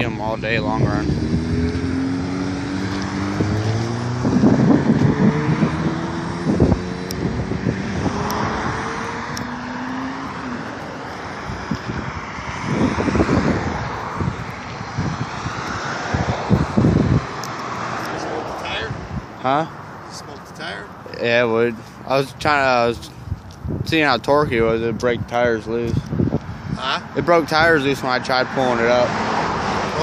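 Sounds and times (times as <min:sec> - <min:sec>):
wind buffeting microphone: 0:00.0 - 0:19.4, 0:21.7 - 0:27.8.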